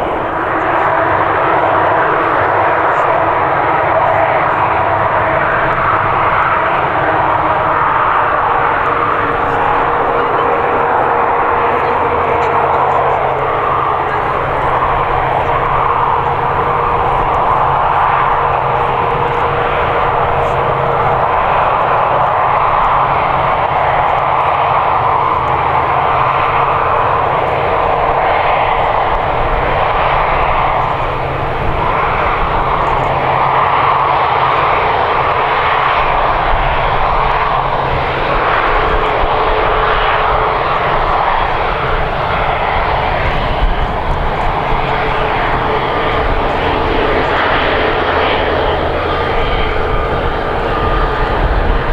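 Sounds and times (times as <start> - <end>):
airliner engines running: 0.0 - 51.9
faint steady whine: 0.0 - 51.9.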